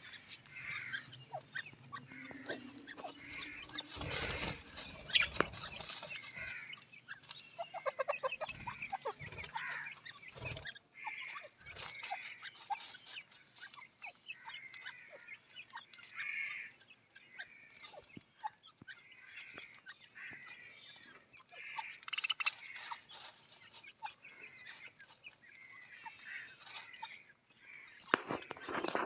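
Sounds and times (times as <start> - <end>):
birds chirping: 0.0 - 29.0
birds clucking: 0.0 - 29.0.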